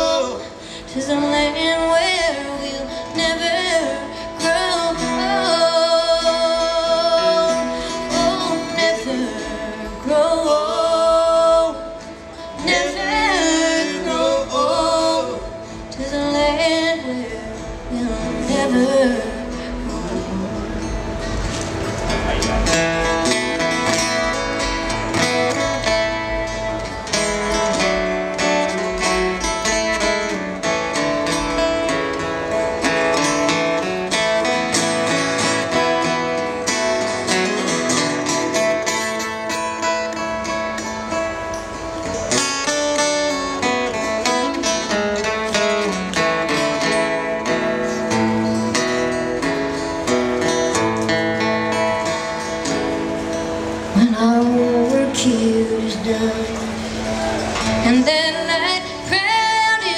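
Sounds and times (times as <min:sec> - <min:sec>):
acoustic guitars playing hymn: 0:00.0 - 0:59.9.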